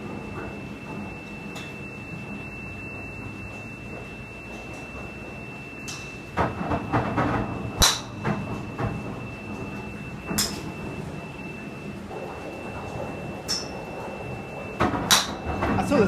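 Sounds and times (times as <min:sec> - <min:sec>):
steady high whine: 0:00.0 - 0:16.0.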